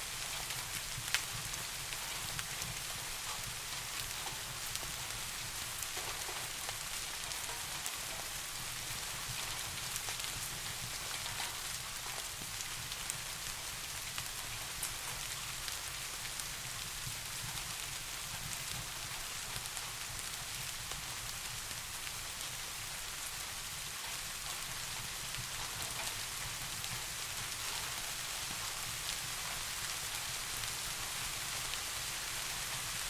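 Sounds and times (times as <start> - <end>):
steady rain hiss: 0.0 - 33.0
sharp raindrop ticks: 0.2 - 22.5, 23.1 - 33.0.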